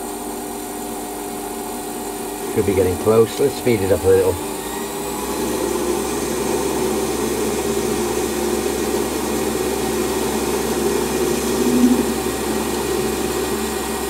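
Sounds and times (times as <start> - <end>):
metal lathe motor droning: 0.3 - 14.0
lathe tool turning cut: 2.4 - 14.0.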